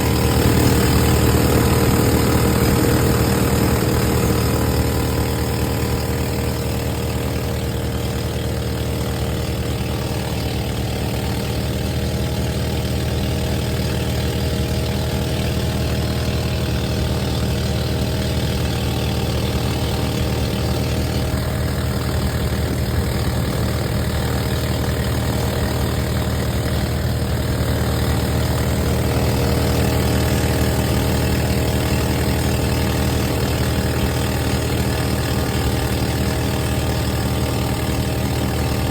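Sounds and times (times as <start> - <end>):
engine droning hum: 0.0 - 38.9.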